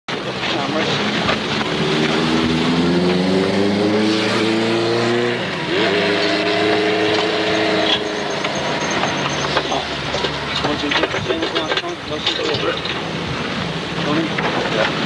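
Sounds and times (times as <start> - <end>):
vehicle engine accelerating: 0.1 - 15.0.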